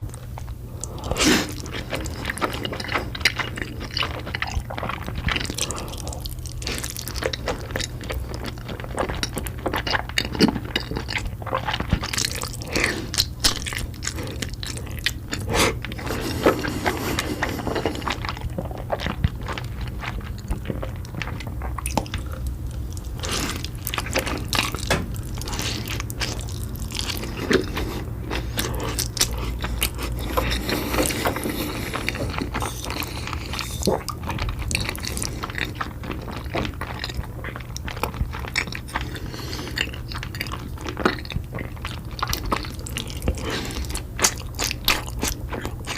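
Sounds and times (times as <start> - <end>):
person chewing and biting: 0.0 - 45.9
steady low hum: 0.0 - 45.9.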